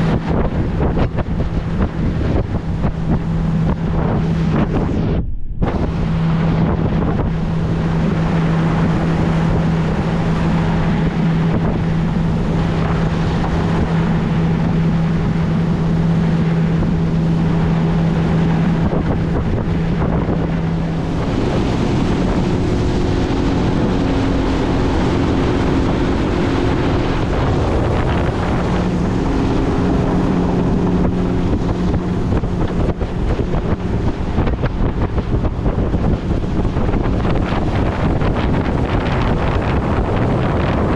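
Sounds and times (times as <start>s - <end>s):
outboard boat engine: 0.0s - 40.9s
water rushing past hull: 0.0s - 40.9s
wind buffeting microphone: 0.0s - 40.9s.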